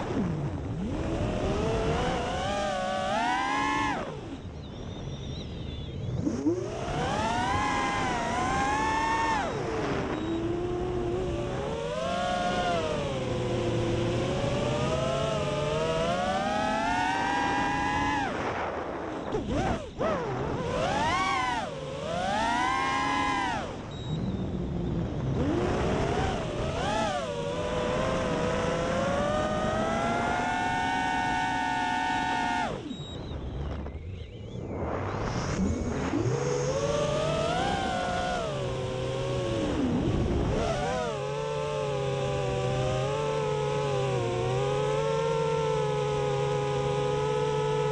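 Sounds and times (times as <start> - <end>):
drone motors and propellers whining: 0.0 - 47.9.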